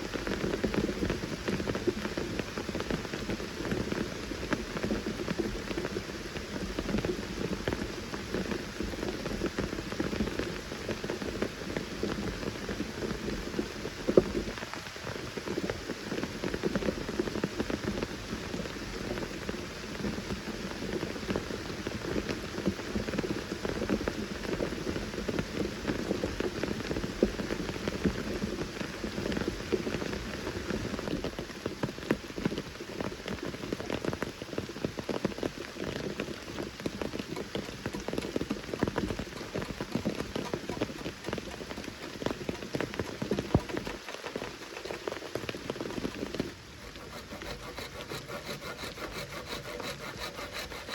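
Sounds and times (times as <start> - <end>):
rain drops hitting leaves: 0.0 - 50.9.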